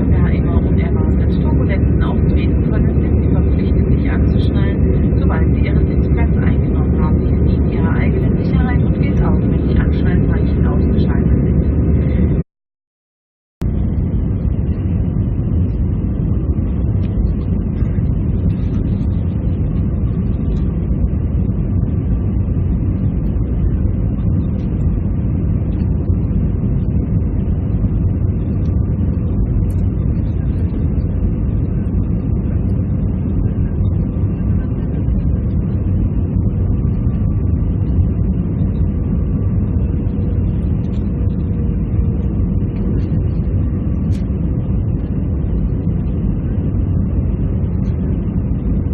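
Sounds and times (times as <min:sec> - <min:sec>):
aircraft cabin engine rumble: 0:00.0 - 0:12.4, 0:13.6 - 0:48.9
faint steady hum: 0:00.0 - 0:12.4, 0:13.6 - 0:48.9.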